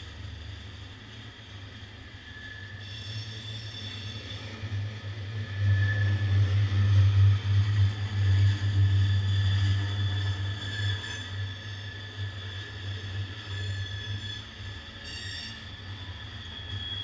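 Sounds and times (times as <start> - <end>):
freight train rolling on rails: 0.0 - 17.0.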